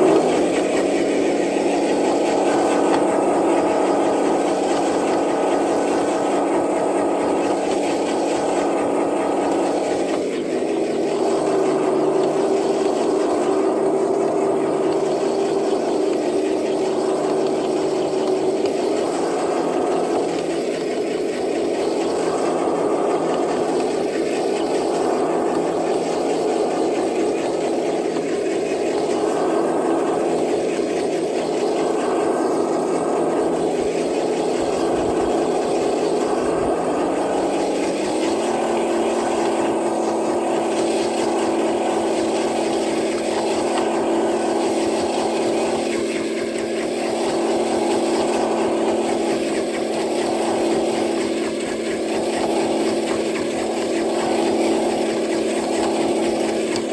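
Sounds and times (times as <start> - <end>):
electric motor whining: 0.0 - 56.9.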